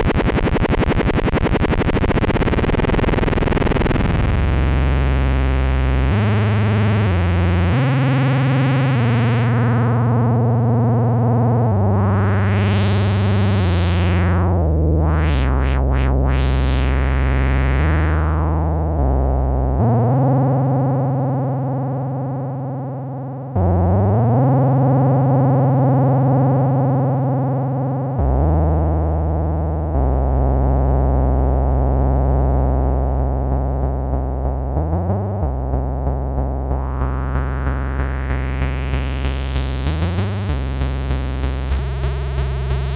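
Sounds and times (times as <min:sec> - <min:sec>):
synthesizer bass line: 0:00.0 - 0:21.8, 0:23.6 - 0:42.9.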